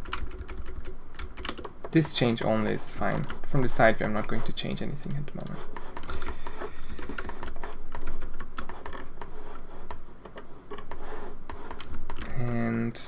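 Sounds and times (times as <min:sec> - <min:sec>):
keyboard and mouse clicking: 0:00.0 - 0:04.3, 0:05.0 - 0:12.5.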